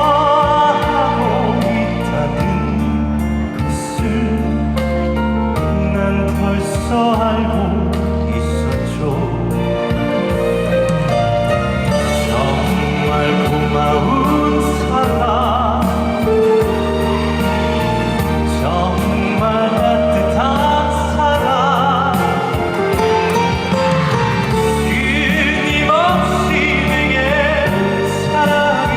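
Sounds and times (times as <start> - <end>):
band backing music: 0.0 - 28.9
person singing with vibrato: 0.0 - 28.9.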